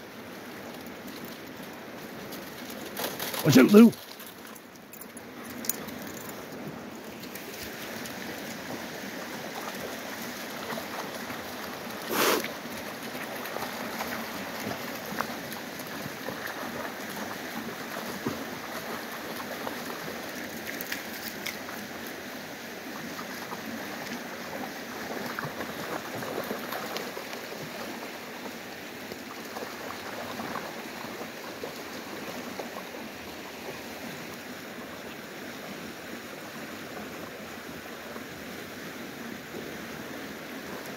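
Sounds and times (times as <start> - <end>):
creek water running: 0.0 - 40.9
dogs splashing through water: 0.4 - 38.3.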